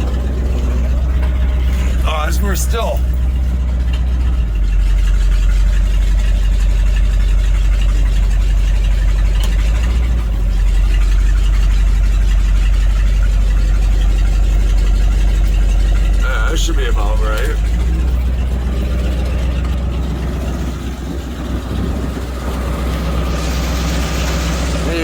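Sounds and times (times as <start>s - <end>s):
engine deep rumble: 0.0s - 25.0s.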